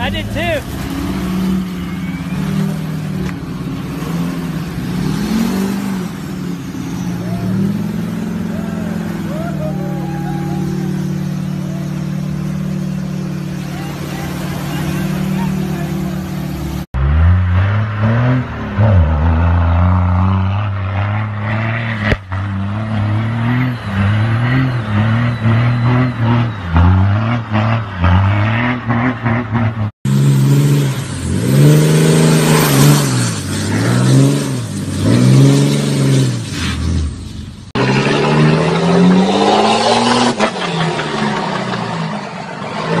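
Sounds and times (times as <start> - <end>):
tires spinning in loose dirt: 0.0 - 43.0
truck engine revving: 0.0 - 43.0.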